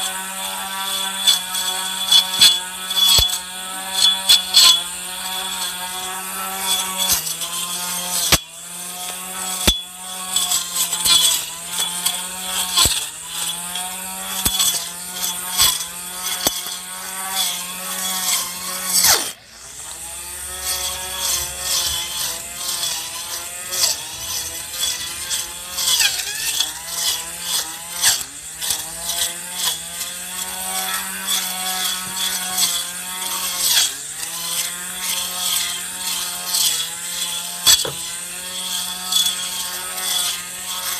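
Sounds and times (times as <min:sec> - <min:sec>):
grass trimmer motor hum: 0:00.0 - 0:40.9
blade clicking on stones: 0:00.1 - 0:19.3, 0:20.6 - 0:40.9.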